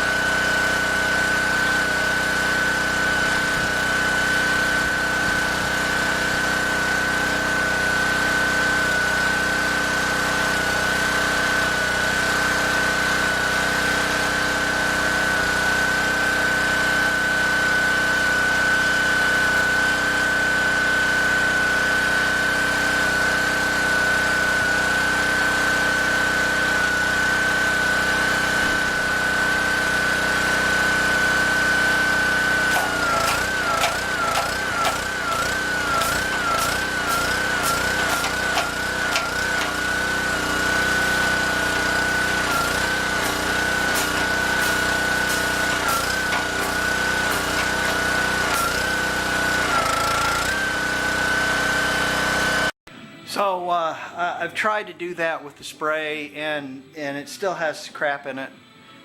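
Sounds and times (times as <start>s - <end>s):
machine motor whining: 0.0s - 52.7s.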